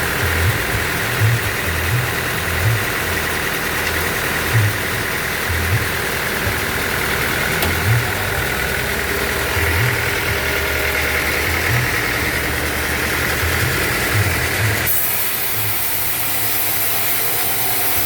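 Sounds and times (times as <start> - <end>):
band saw humming: 0.0 - 18.0.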